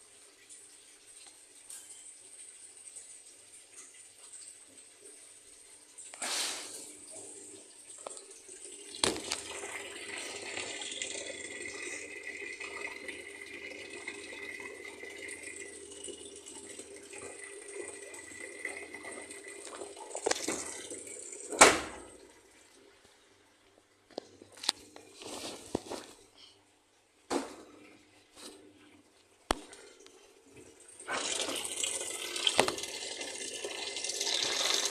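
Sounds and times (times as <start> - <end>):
water running: 0.0 - 34.9.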